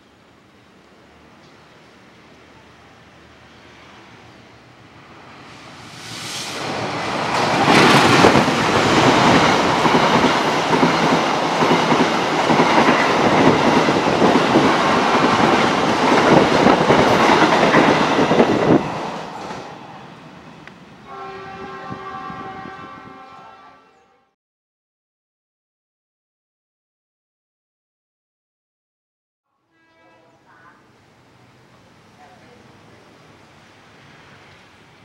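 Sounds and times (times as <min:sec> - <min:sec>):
passenger train passing: 0:00.0 - 0:24.1, 0:29.8 - 0:35.0.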